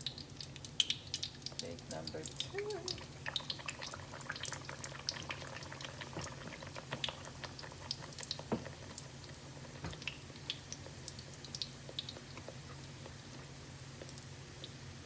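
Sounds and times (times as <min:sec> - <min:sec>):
dough frying in oil: 0:00.0 - 0:15.0
oil popping and crackling: 0:00.0 - 0:15.0.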